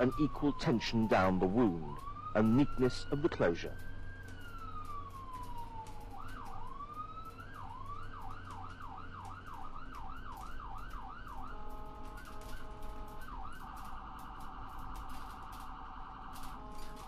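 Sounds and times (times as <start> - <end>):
electronic siren: 0.0 - 17.0.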